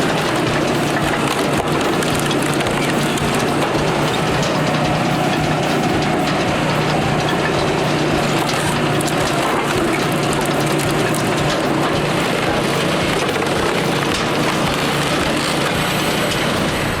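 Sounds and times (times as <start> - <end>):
machine engine hum: 0.0 - 17.0
wood crackling being worked: 0.0 - 17.0.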